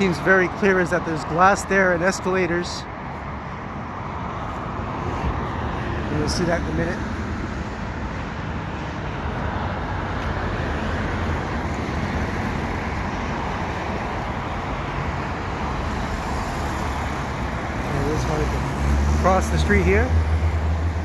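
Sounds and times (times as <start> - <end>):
cars passing close by: 0.0 - 21.0
highway traffic rush: 0.0 - 21.0.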